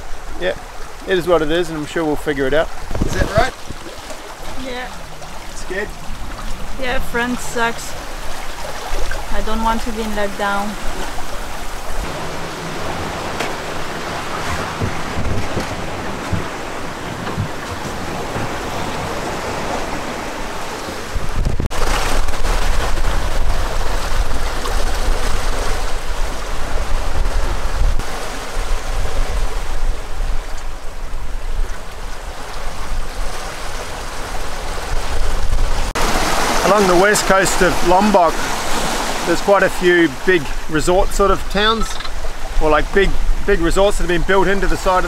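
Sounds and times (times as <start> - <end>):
sea rushing past a boat: 0.0 - 45.0
wind on microphone: 2.6 - 3.9, 4.5 - 36.6, 40.5 - 45.0.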